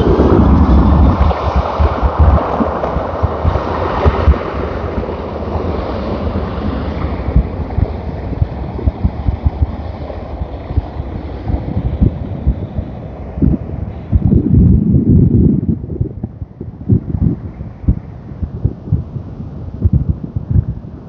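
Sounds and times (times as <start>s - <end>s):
jet engines roaring on takeoff: 0.0s - 21.0s
wind buffeting microphone: 0.0s - 21.0s.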